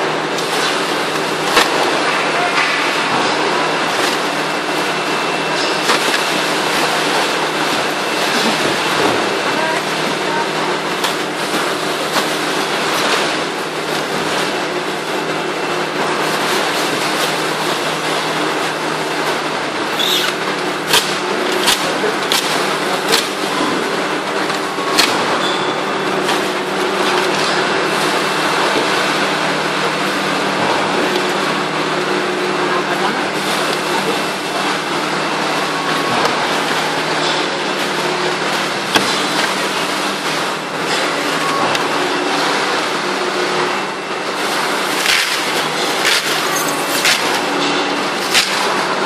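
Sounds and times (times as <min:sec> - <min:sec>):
factory machinery din: 0:00.0 - 0:49.0.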